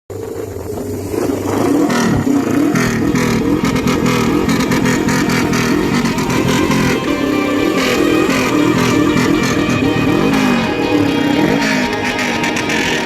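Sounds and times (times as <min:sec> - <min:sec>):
motorcycle engine revving: 0:00.1 - 0:13.0.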